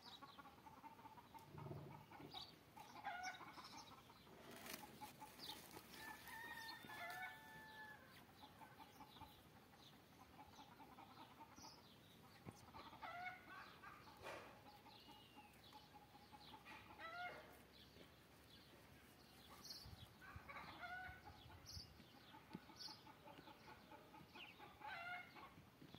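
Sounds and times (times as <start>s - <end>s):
faint chicken clucking: 0.0s - 25.9s.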